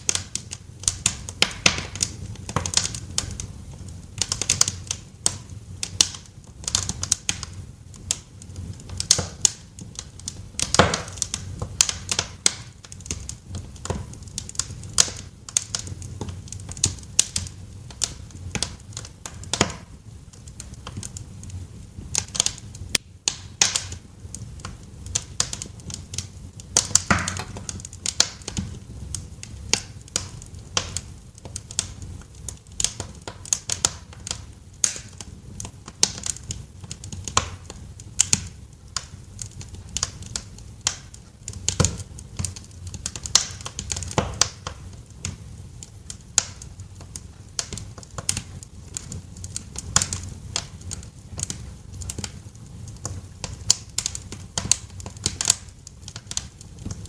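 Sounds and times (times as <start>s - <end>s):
low rumble of burning: 0.0s - 57.0s
sharp pops and snaps: 0.0s - 57.0s
wood fire crackling: 0.0s - 57.0s.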